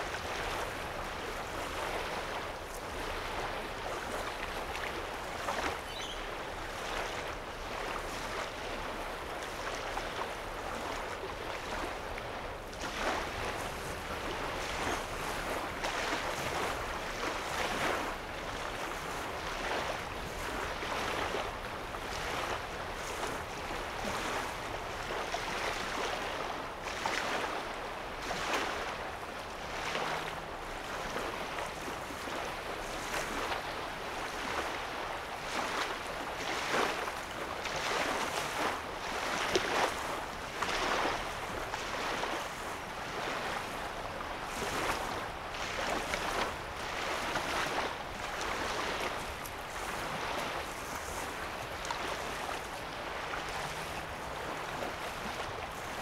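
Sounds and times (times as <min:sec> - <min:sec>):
wavelets lapping on sand: 0:00.0 - 0:56.0.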